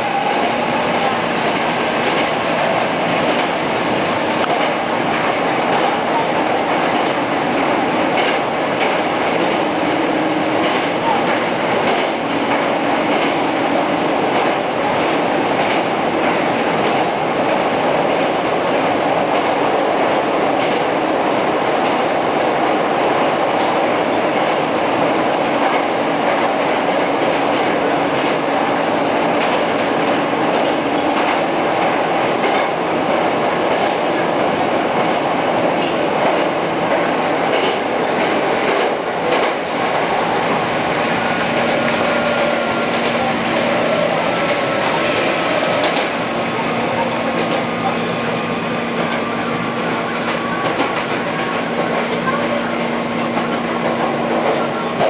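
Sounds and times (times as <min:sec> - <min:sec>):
train wheels rumbling on rail: 0:00.0 - 0:55.0
clacks over rail joints: 0:00.2 - 0:21.1, 0:23.1 - 0:48.0, 0:49.8 - 0:52.4.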